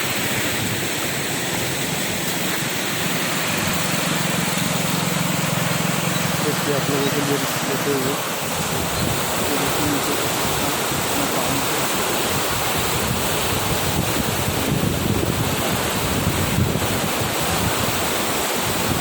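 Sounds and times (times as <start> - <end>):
floodwater rushing: 0.0 - 19.0
wind on microphone: 0.0 - 19.0.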